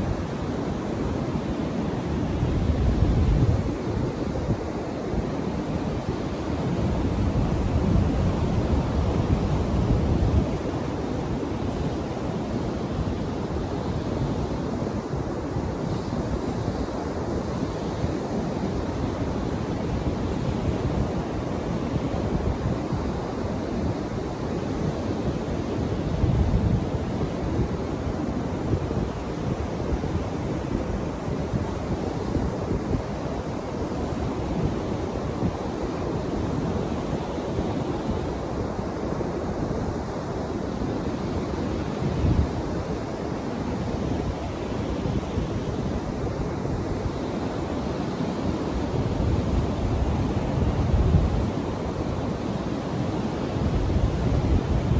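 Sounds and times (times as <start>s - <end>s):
ocean surf on beach: 0.0s - 54.9s.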